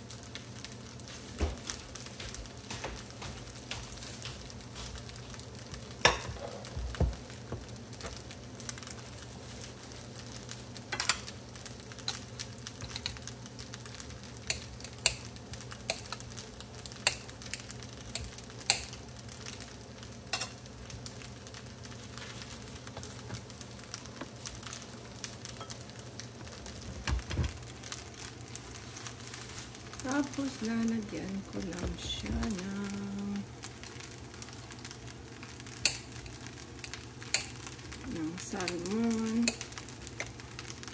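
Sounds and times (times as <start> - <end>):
rice sizzling in a pan: 0.0 - 40.9.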